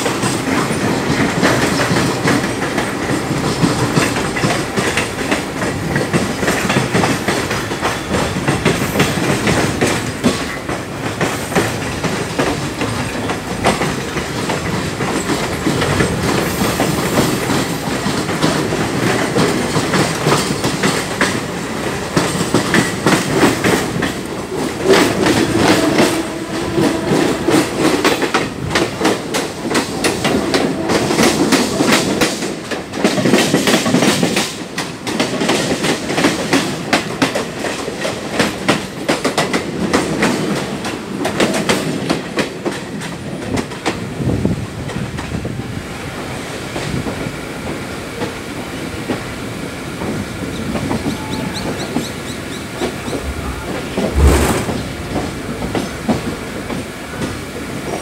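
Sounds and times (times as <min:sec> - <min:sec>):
passing electric train: 0:00.0 - 0:58.0
train running rumble: 0:00.0 - 0:58.0
train wheels clattering over rail joints: 0:00.0 - 0:58.0.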